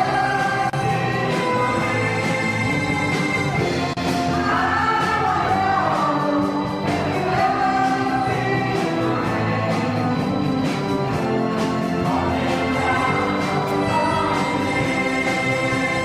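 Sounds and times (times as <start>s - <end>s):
live band playing: 0.0s - 16.0s
person singing: 0.0s - 16.0s.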